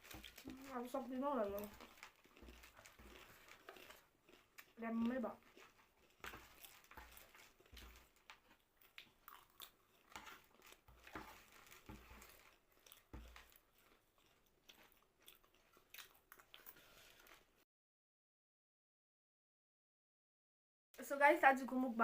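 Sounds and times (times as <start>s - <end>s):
chewing crunchy puffed rice: 0.0s - 17.6s.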